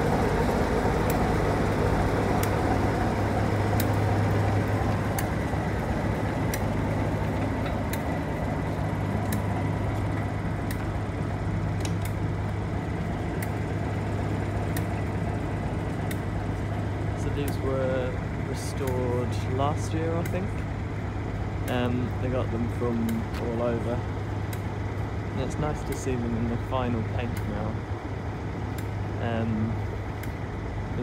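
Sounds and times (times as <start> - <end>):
diesel locomotive engine idling: 0.0 - 31.0.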